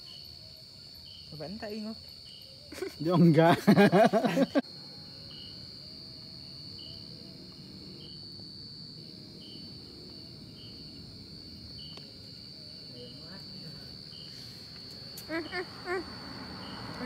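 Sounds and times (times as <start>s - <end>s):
cricket chirps: 0.0s - 17.0s
crickets trilling: 0.0s - 17.0s.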